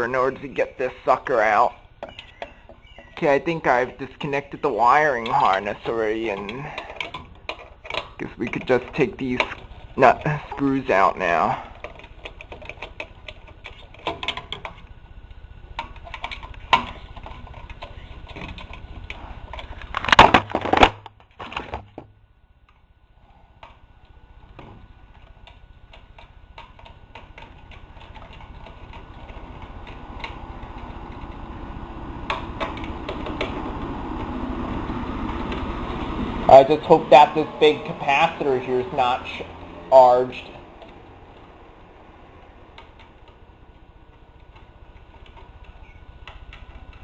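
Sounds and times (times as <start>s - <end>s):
steady noise: 0.0s - 47.0s.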